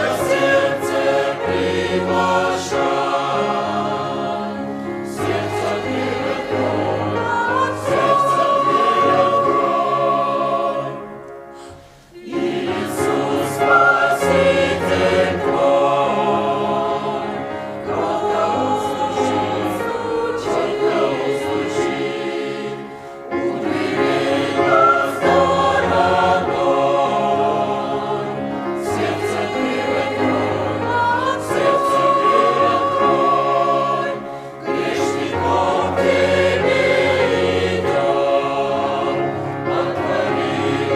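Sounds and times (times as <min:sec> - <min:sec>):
church choir singing a hymn: 0:00.0 - 0:40.9.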